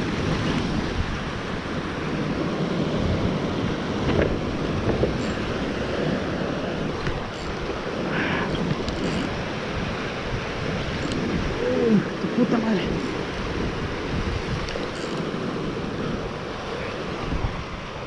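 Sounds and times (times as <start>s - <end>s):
sea: 0.0s - 18.0s
wind on microphone: 0.0s - 18.0s.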